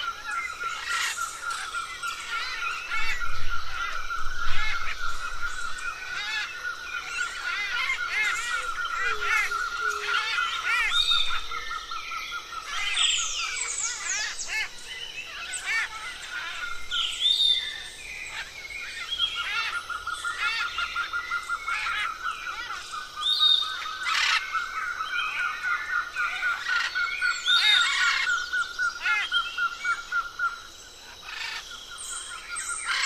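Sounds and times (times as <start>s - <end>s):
birds chirping and whistling: 0.0s - 33.0s.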